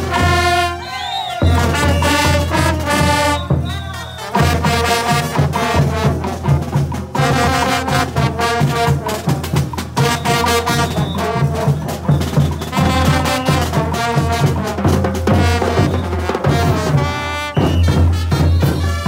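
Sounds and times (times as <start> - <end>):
brass horns playing: 0.0 - 19.0
drums and cymbals: 0.0 - 19.0.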